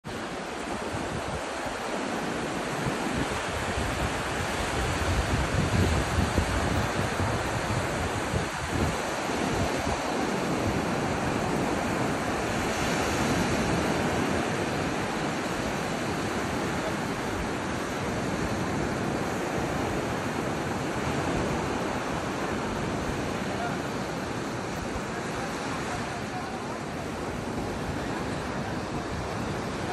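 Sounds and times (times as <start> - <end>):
small waves washing up beach: 0.0 - 29.9
wind buffeting microphone: 0.1 - 29.9.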